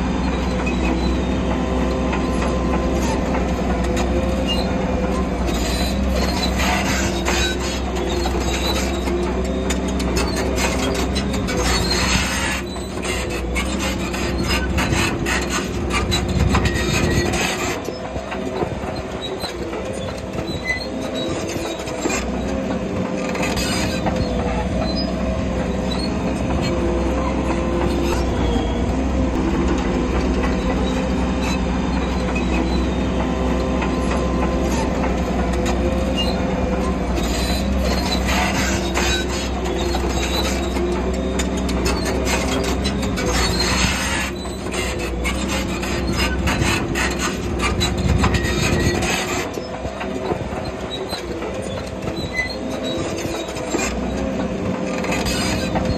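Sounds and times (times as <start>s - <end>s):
bulldozer diesel engine running: 0.0s - 55.9s
metallic track clatter and scraping: 0.0s - 55.9s.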